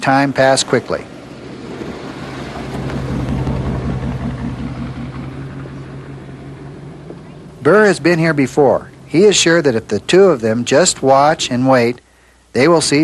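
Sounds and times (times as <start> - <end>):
car engine and road noise: 0.0 - 11.9.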